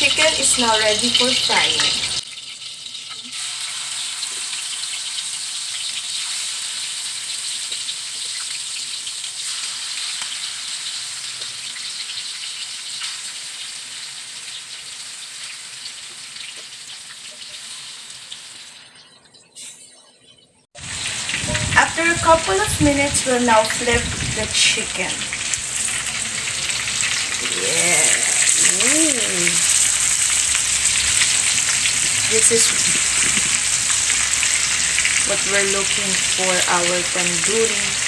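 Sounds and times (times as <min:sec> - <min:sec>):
chicken sizzling in oil: 0:00.0 - 0:19.2, 0:20.8 - 0:38.0.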